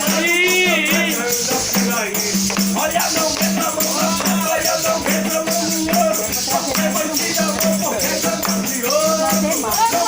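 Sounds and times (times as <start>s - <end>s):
shaken hand percussion: 0.0s - 10.0s
voices singing: 0.0s - 10.0s.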